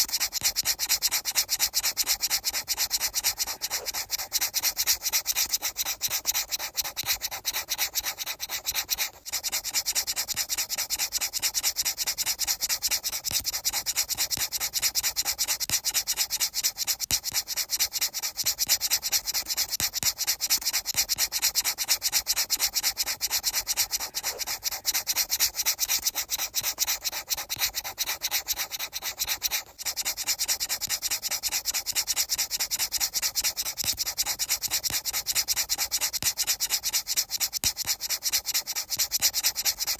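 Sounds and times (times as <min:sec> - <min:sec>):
dry scratchy brushing strokes: 0:00.0 - 0:39.9.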